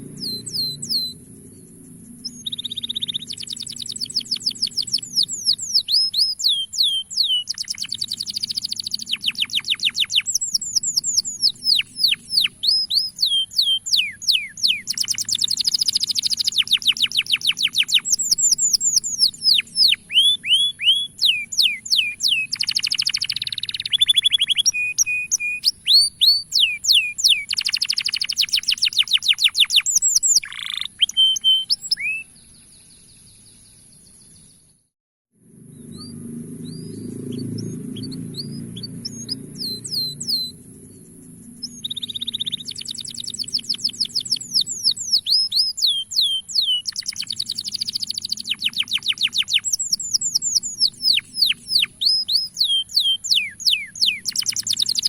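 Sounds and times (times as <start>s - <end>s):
canary singing: 0.0s - 32.4s, 35.7s - 55.0s.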